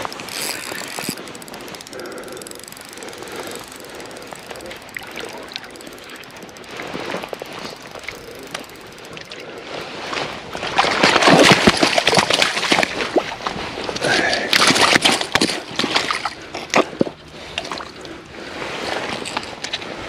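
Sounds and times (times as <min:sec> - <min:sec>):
fish splashing in water: 0:00.0 - 0:18.1.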